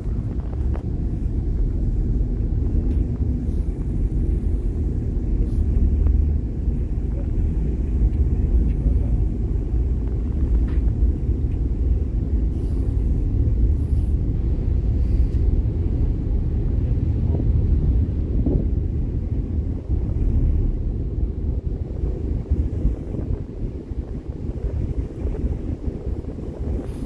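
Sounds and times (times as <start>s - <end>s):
ferry engine rumble: 0.0s - 27.0s.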